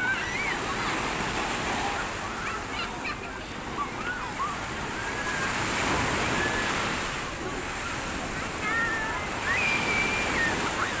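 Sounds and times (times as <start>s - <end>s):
sea waves washing onto shore: 0.0s - 11.0s.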